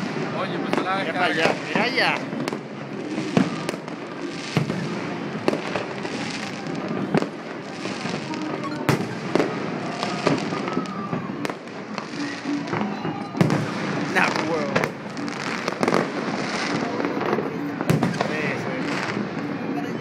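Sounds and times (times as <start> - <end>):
firecrackers popping and crackling: 0.0 - 20.0
firework bangs: 0.0 - 20.0.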